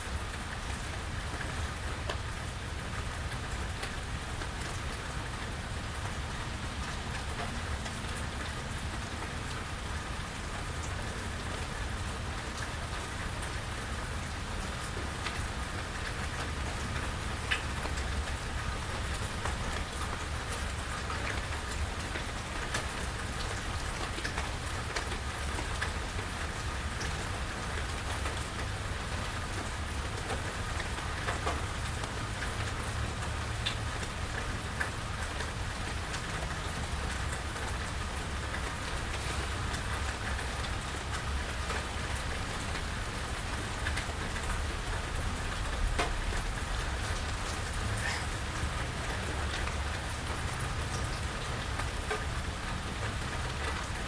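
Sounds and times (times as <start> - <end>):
raindrops ticking: 0.1 - 54.0.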